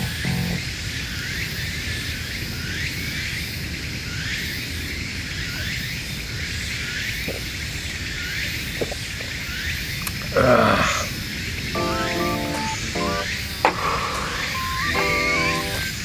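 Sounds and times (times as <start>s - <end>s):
insects calling: 0.0s - 16.0s.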